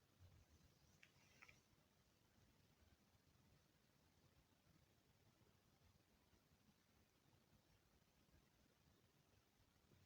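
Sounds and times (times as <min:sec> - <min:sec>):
faint low hiss: 0:00.0 - 0:10.0.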